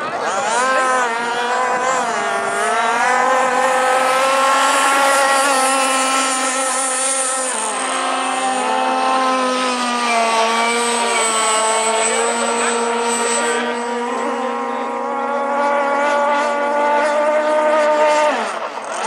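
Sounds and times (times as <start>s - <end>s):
racing boat engine high revs: 0.0s - 19.0s.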